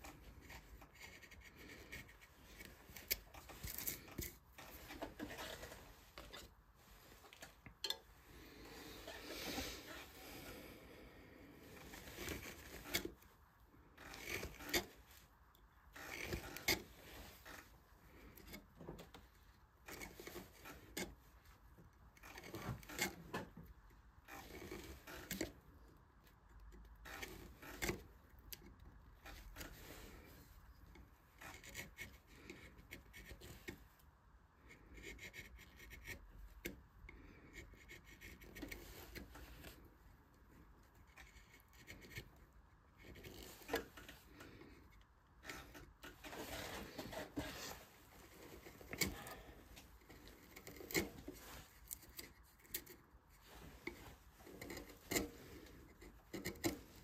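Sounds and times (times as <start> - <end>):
carving tool scraping wood: 0.0 - 57.0.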